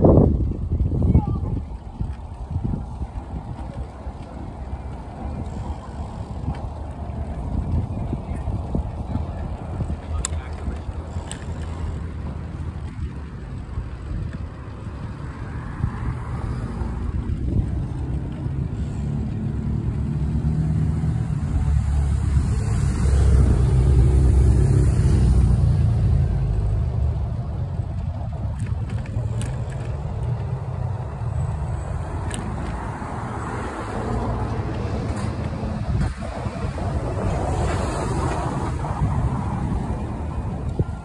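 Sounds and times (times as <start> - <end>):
road traffic rumble: 0.0 - 41.0.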